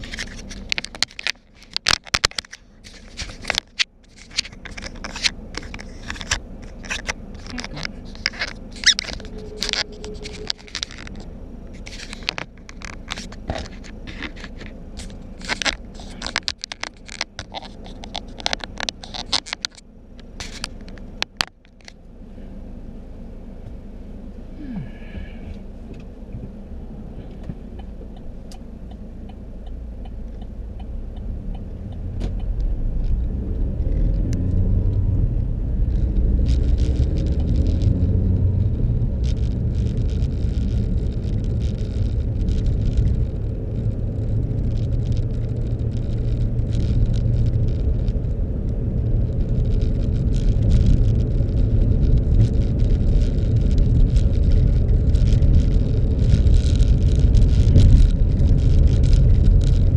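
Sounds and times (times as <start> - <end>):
clicks and scrapes at microphone: 0.0 - 22.0, 25.5 - 59.9
car engine and road noise: 0.0 - 59.9.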